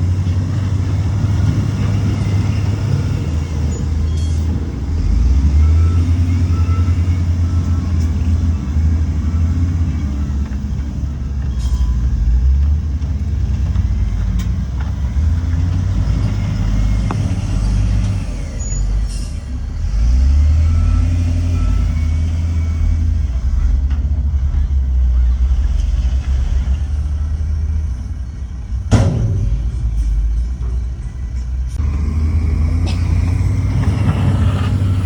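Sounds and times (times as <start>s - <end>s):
heavy diesel machinery engine: 0.0s - 35.0s.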